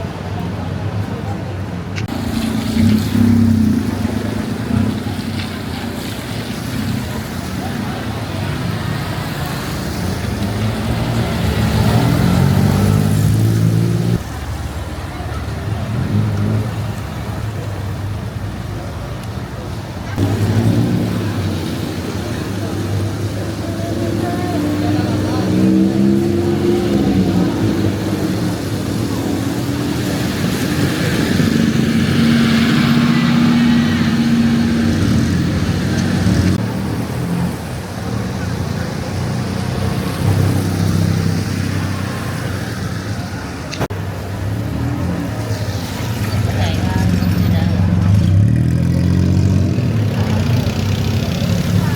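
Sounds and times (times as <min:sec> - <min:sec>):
street traffic noise: 0:00.0 - 0:51.9.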